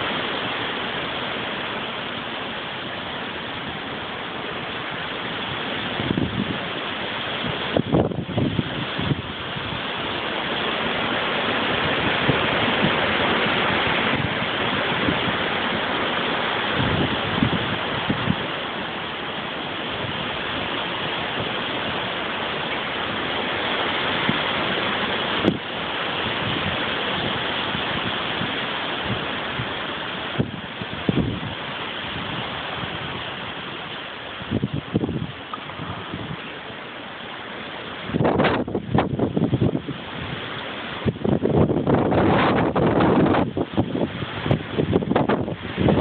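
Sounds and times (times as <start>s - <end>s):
wind rushing through trees: 0.0s - 46.0s
wind buffeting microphone: 2.9s - 33.5s, 34.3s - 36.6s, 38.0s - 46.0s.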